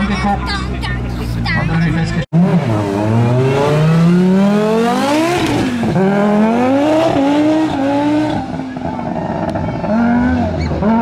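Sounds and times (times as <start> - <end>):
car engine accelerating hard: 1.4 - 11.0.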